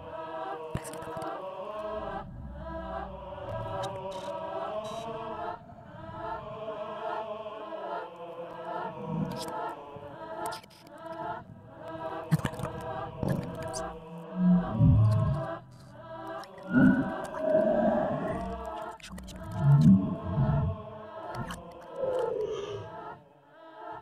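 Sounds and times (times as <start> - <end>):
choral chanting in harmony: 0.0 - 24.0.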